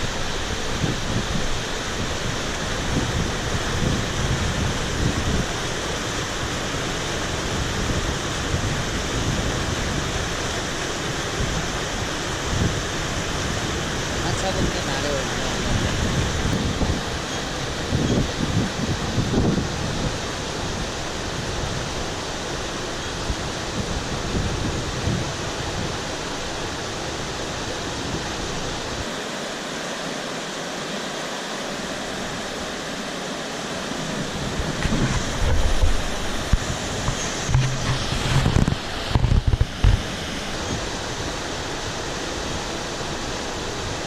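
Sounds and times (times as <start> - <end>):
wind buffeting microphone: 0.0 - 29.1, 33.9 - 43.2
rushing stream water: 0.0 - 44.0.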